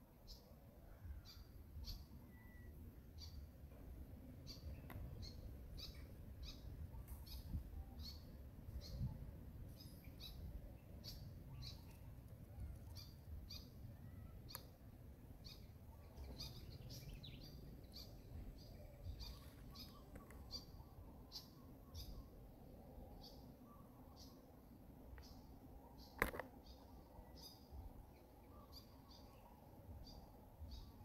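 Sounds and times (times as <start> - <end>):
low background rumble: 0.5 - 28.9.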